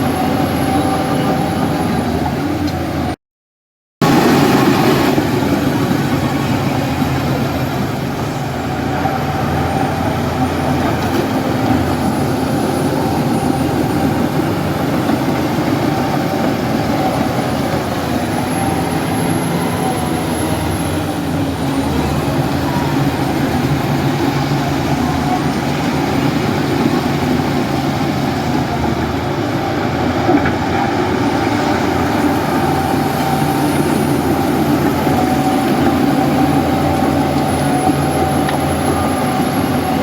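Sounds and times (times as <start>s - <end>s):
diesel earthmoving machinery running: 0.0s - 3.2s, 4.0s - 40.0s.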